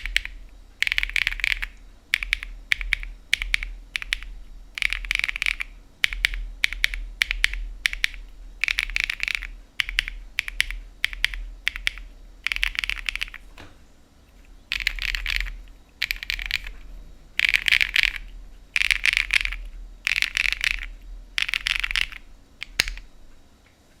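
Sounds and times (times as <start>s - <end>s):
mechanical keyboard typing: 0.0s - 13.6s, 14.7s - 23.1s.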